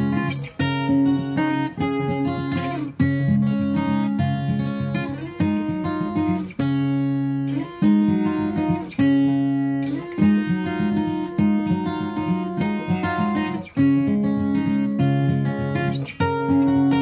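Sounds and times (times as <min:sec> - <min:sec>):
acoustic guitar strummed chords: 0:00.0 - 0:17.0
picked guitar notes: 0:00.0 - 0:17.0.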